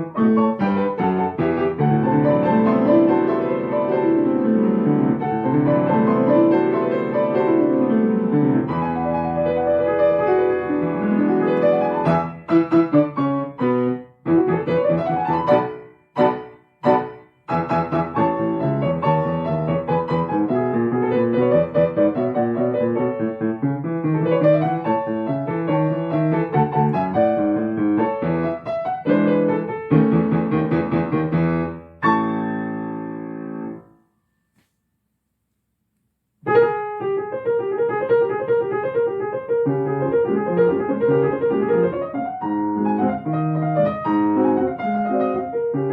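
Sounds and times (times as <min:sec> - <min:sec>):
solo piano playing: 0:00.0 - 0:34.7, 0:36.4 - 0:45.9.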